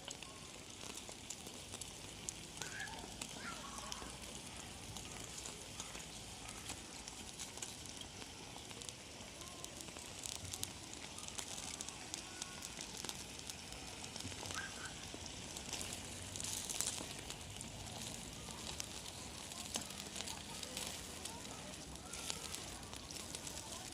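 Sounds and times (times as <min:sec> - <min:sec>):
wood fire crackling and popping: 0:00.0 - 0:23.9.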